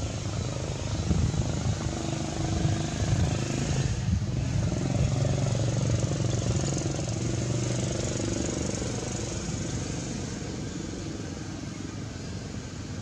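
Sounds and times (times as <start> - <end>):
background hiss: 0.0 - 13.0
engine humming: 0.0 - 13.0.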